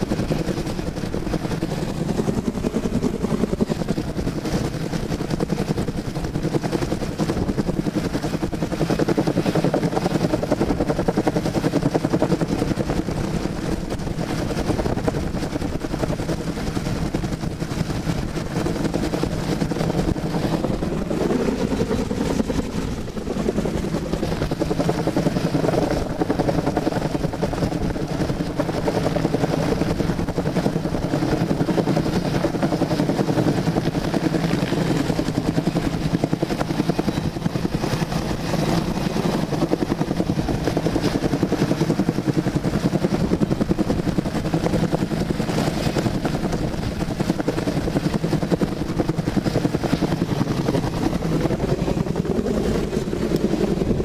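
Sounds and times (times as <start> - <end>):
helicopter engine drone: 0.0 - 54.0
helicopter rotor beating: 0.0 - 54.0.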